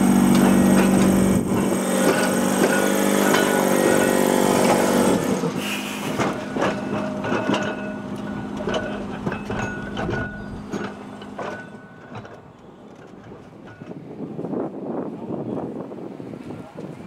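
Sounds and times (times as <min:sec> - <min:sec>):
wheels clicking over rail joints: 0:00.0 - 0:14.6
tram mechanical hum: 0:00.0 - 0:17.0.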